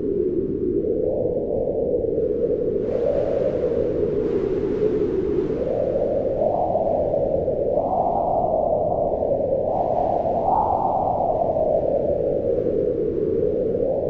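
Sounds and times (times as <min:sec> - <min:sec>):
wind blowing in gusts: 0:00.0 - 0:14.0.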